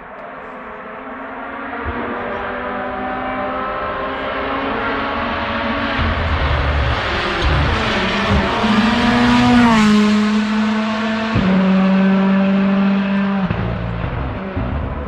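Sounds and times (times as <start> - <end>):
rally car engine passing: 0.3 - 15.0.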